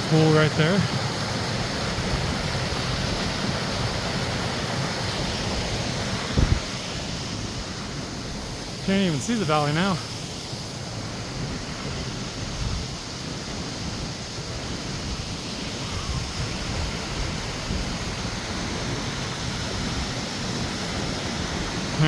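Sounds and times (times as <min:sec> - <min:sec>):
creek rushing over small falls: 0:00.0 - 0:22.0
wind rumbling on microphone: 0:01.7 - 0:08.8, 0:11.1 - 0:22.0.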